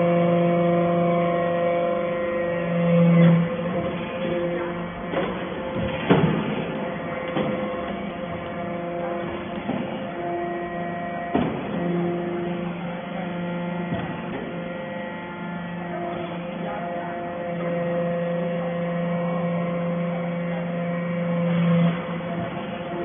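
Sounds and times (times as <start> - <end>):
hydraulic pump humming: 0.0 - 23.0.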